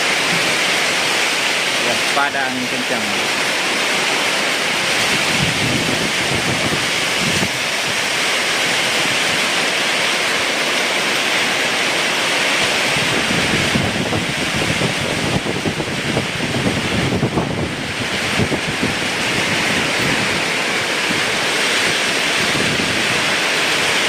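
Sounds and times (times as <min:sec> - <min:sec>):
steady hiss of rain: 0:00.0 - 0:24.0
wind gusts buffeting microphone: 0:03.2 - 0:24.0.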